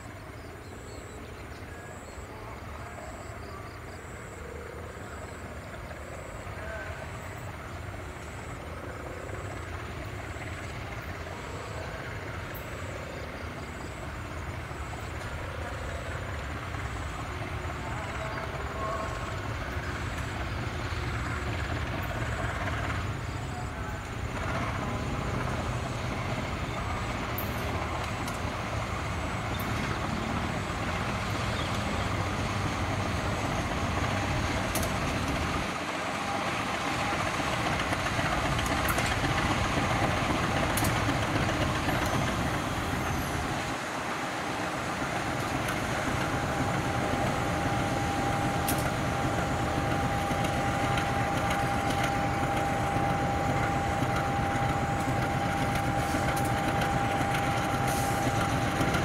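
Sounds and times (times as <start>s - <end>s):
diesel locomotive engine: 0.0s - 59.0s
train wheels on rails: 0.0s - 59.0s.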